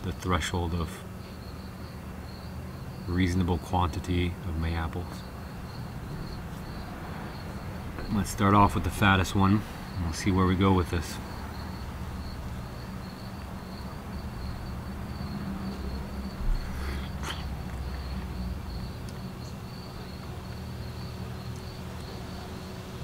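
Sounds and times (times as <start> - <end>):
cricket trilling: 0.0 - 23.0.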